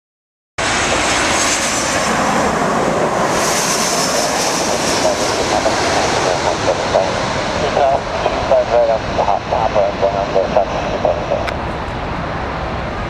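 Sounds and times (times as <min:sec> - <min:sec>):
high engine whine: 0:00.6 - 0:13.0
jet engines roaring: 0:00.6 - 0:13.0.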